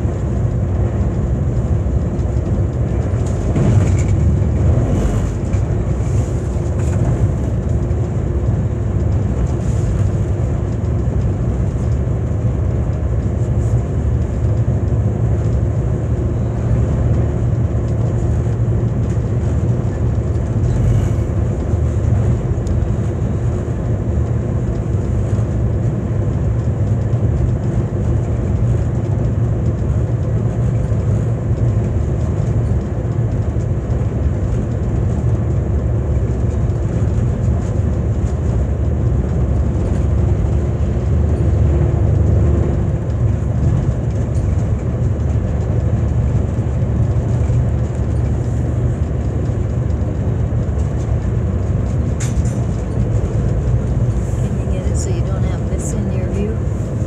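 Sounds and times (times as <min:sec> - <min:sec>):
train coach rumbling: 0:00.0 - 0:57.0.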